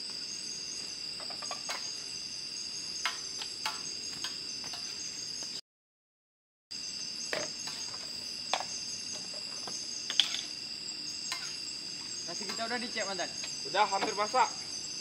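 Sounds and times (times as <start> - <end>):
crickets chirping: 0.0 - 5.6, 6.7 - 15.0.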